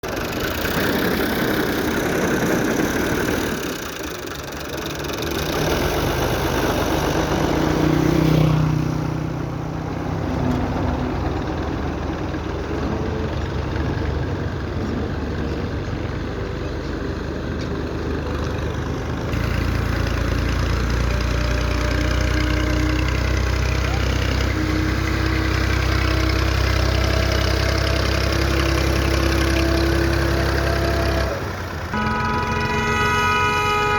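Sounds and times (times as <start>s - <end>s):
deep engine hum: 0.0s - 33.9s
tractor engines running: 0.0s - 33.9s.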